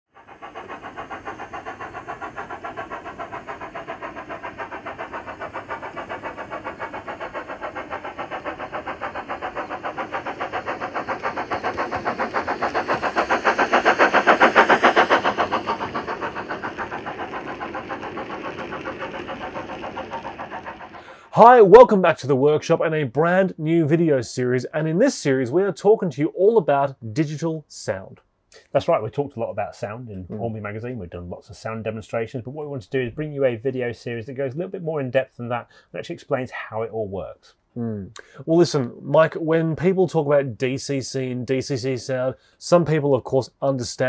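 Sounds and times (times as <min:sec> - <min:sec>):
model steam locomotive chuffing: 0:00.1 - 0:37.4, 0:38.4 - 0:44.0.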